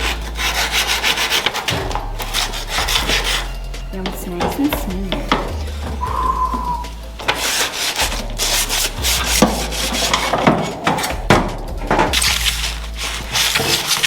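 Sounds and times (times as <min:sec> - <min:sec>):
sandpaper rubbing on metal: 0:00.0 - 0:03.8, 0:06.3 - 0:14.0.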